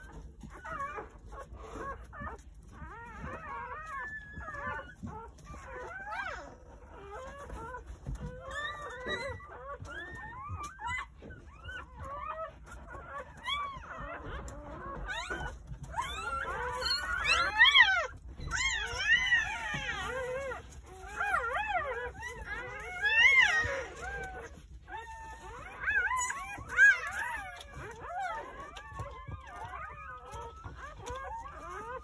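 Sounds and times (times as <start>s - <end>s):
puppies squealing: 0.0s - 32.0s.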